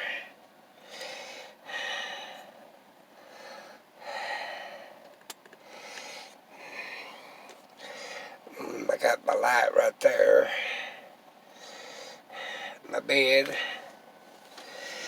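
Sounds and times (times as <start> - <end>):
man breathing heavily: 0.0 - 5.0, 5.6 - 8.8, 10.4 - 12.9, 13.5 - 15.0.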